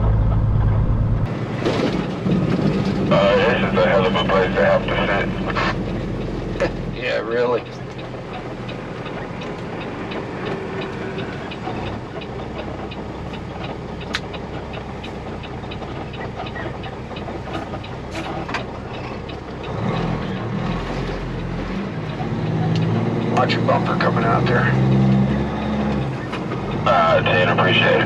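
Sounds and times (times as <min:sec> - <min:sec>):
diesel truck engine running: 0:00.0 - 0:28.0
road noise: 0:00.0 - 0:28.0
steady ticking: 0:02.1 - 0:28.0.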